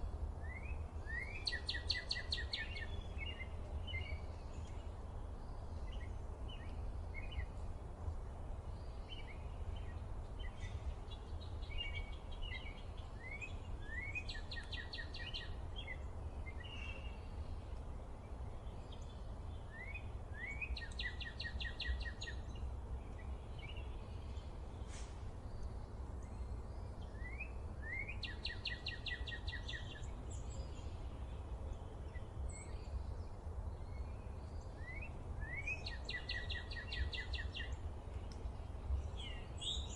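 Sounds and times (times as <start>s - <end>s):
songbird trilling song: 0.0s - 7.6s, 8.6s - 39.9s.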